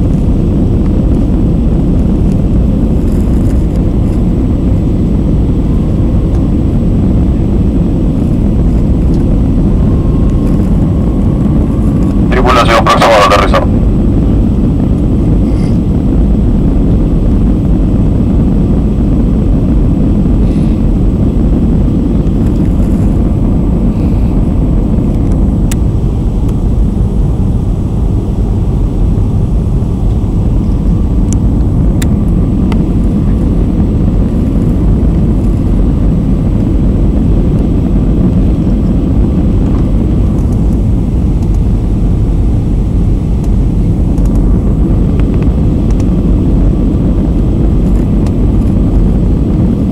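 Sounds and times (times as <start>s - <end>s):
jet engines and rushing air: 0.0s - 49.9s.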